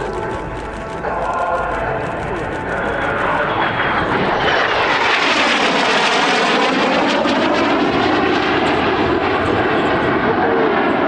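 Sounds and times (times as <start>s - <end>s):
aircraft flying past: 0.0s - 11.0s.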